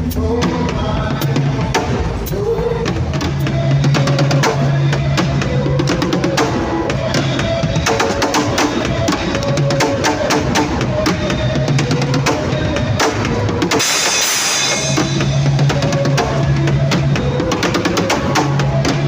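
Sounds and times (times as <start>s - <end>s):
drum kit playing: 0.0s - 19.0s.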